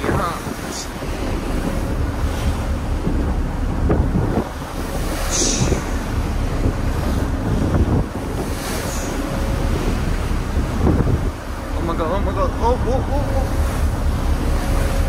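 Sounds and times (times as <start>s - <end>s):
rough sea breaking along hull: 0.0s - 15.0s
wind buffeting microphone: 0.0s - 15.0s.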